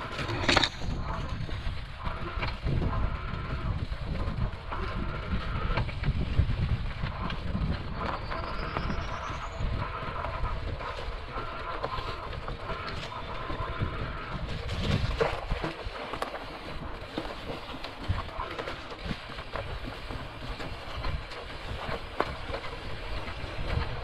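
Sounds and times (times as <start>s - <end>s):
bike rattling over bumps: 0.0s - 24.0s
faint electric motor whine: 0.0s - 24.0s
wind: 0.0s - 24.0s.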